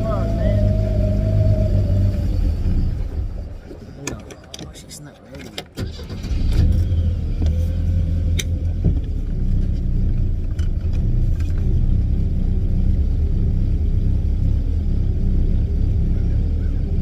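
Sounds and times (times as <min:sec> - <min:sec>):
boat engine running: 0:00.0 - 0:05.7, 0:06.4 - 0:17.0.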